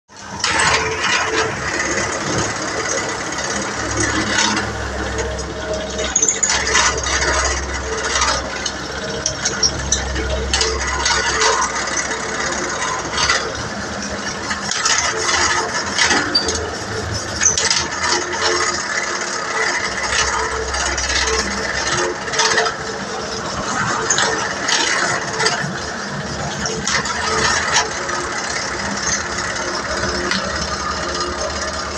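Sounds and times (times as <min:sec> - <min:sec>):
low machine hum: 0:00.1 - 0:31.9
metallic knocking and rattling: 0:00.1 - 0:31.9.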